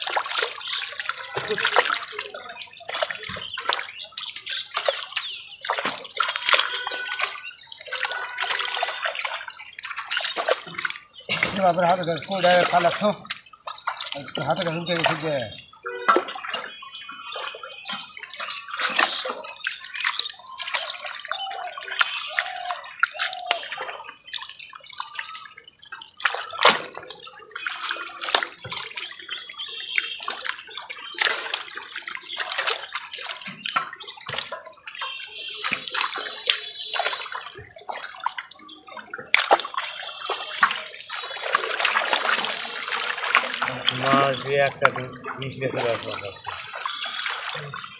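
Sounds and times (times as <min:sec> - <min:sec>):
fish splashing in water: 0:00.0 - 0:47.9.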